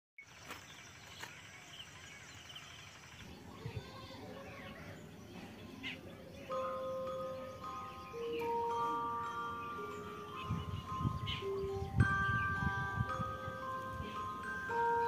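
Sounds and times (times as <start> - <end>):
bird chirps: 0.2 - 15.0.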